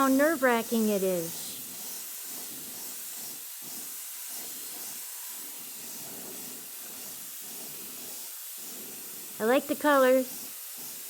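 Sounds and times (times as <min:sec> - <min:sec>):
paint spray gun hissing: 0:00.0 - 0:11.0.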